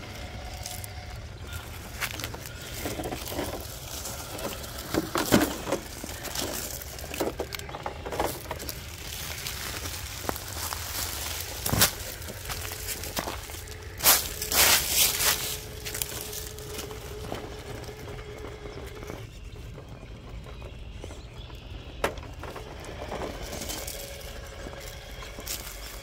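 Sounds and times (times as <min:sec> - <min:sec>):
leaves and gravel crunching: 0:00.0 - 0:19.8, 0:21.5 - 0:26.0.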